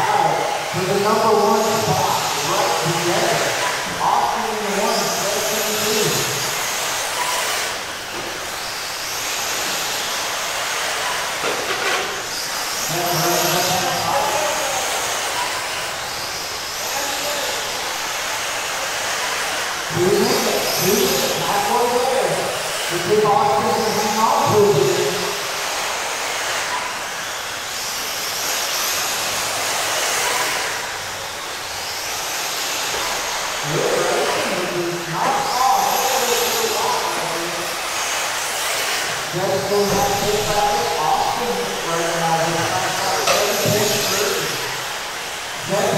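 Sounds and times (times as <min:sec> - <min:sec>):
rc cars motors and tyres hissing: 0:00.0 - 0:45.9.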